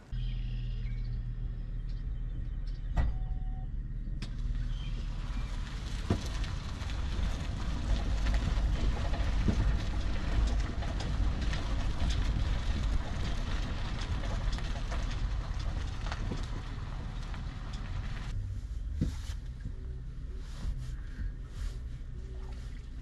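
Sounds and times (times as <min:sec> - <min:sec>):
wind rumbling on microphone: 0:00.8 - 0:23.0.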